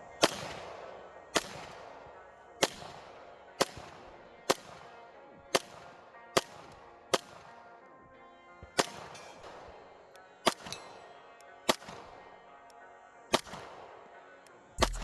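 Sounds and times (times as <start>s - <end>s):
pistol shots: 0.0s - 7.8s, 8.6s - 12.6s, 13.3s - 15.0s
background music: 0.0s - 15.0s.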